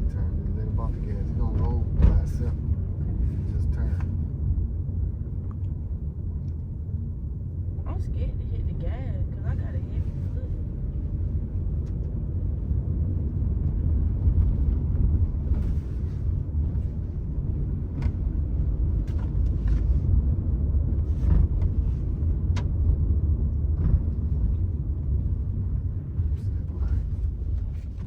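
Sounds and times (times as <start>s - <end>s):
car driving rumble inside cabin: 0.0s - 28.0s.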